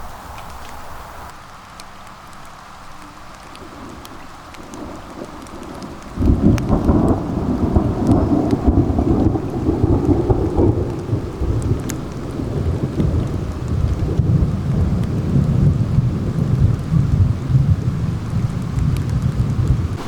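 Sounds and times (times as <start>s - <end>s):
steady rain: 0.0s - 20.0s
thunder crack and rumble: 3.6s - 20.0s.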